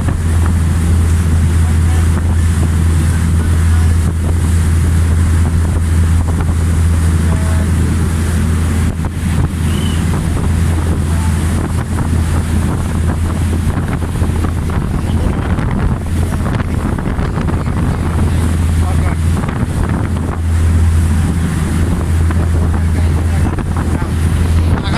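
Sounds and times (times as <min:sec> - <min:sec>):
boat engine droning: 0:00.0 - 0:24.9
water rushing: 0:00.0 - 0:24.9
wind buffeting microphone: 0:00.0 - 0:24.9.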